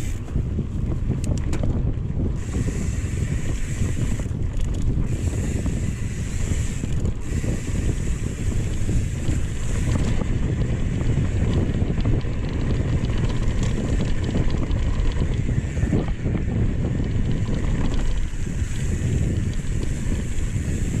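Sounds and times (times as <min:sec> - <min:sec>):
bike clicks and rattles: 0:00.0 - 0:21.0
tyres rumbling on dirt trail: 0:00.0 - 0:21.0
wind buffeting microphone: 0:00.0 - 0:21.0.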